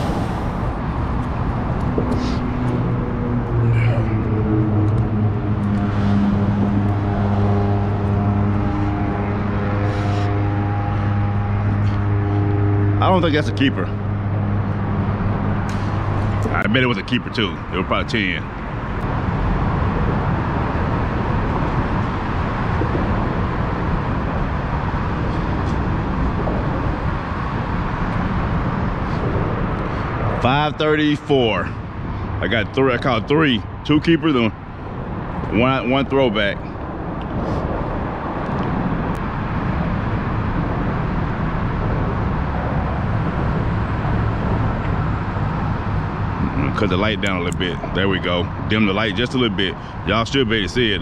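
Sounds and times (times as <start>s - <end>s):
engine running steadily: 0.0s - 51.0s
loud low background noise: 0.0s - 51.0s.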